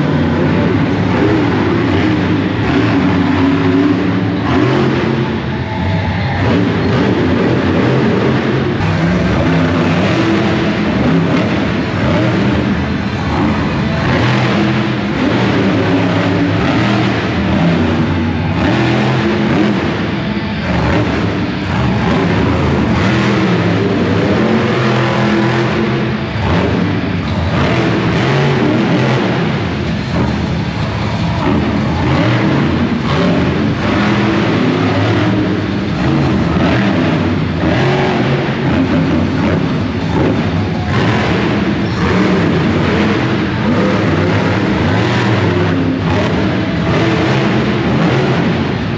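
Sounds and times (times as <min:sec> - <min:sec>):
monster truck engines revving: 0:00.0 - 0:48.9.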